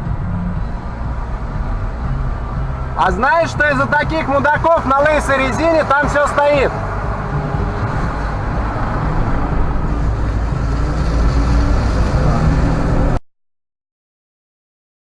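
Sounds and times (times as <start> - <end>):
car engine and road noise: 0.0 - 13.2.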